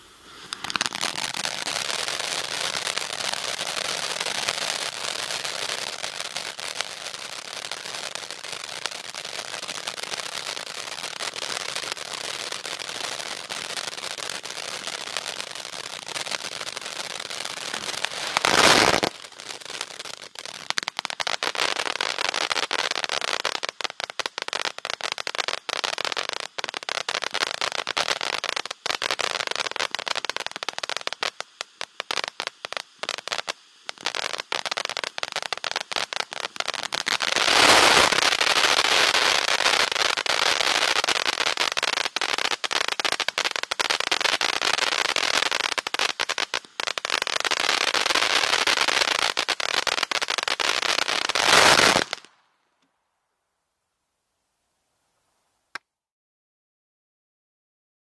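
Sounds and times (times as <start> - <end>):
firework fountain hissing: 0.0 - 52.4
firework crackling: 0.0 - 52.6.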